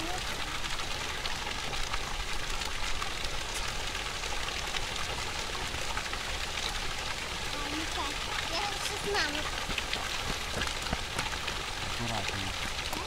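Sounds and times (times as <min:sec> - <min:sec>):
spring water running and splashing: 0:00.0 - 0:13.0.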